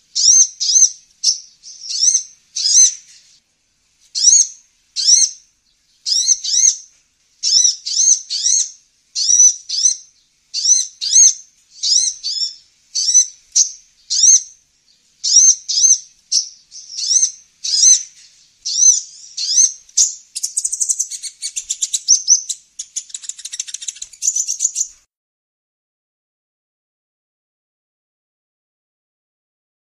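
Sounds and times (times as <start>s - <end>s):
bird chirping: 0.0s - 3.4s, 4.1s - 25.1s.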